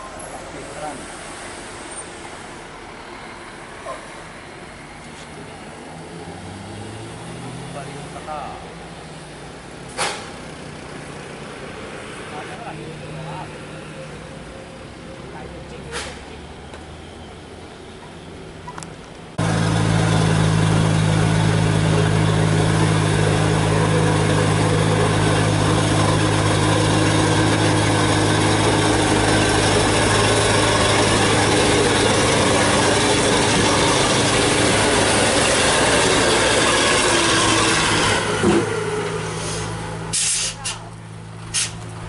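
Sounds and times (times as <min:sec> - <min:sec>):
truck diesel engine labouring: 0:00.0 - 0:42.0.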